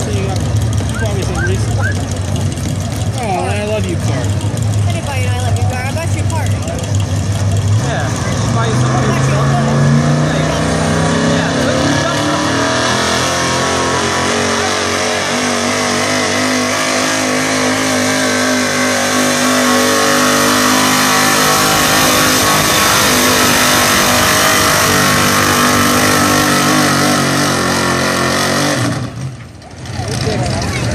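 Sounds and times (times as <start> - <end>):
truck engine at high revs: 0.0 - 30.9.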